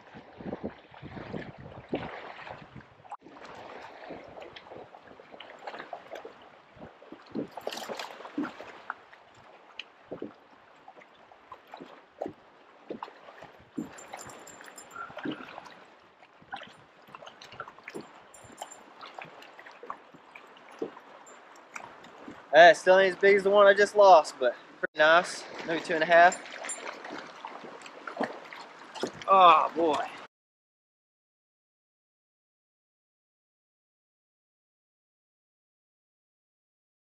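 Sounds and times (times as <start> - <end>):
waves slapping a metal hull: 0.0 - 30.3
wind: 0.0 - 30.3.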